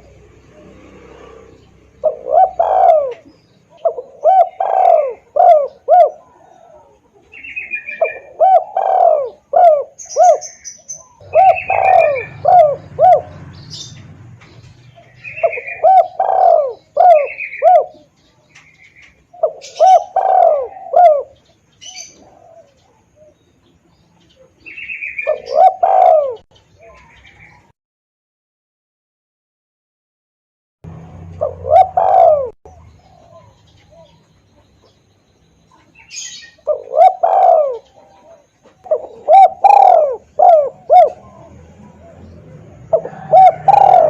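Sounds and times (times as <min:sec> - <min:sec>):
dove cooing: 0:00.0 - 0:14.0, 0:14.6 - 0:23.4, 0:24.2 - 0:27.7, 0:30.9 - 0:34.8, 0:35.7 - 0:44.0.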